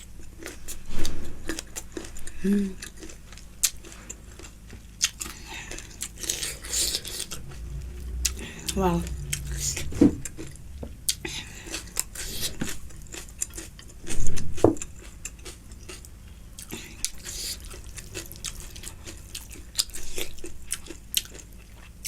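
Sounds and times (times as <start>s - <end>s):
chewing and biting food: 0.0s - 22.0s.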